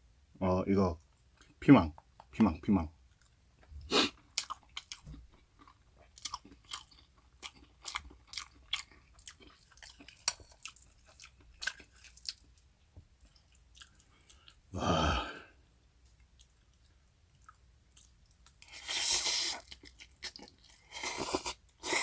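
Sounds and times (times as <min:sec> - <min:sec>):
chewing crunchy food: 0:03.1 - 0:14.7, 0:16.0 - 0:22.0.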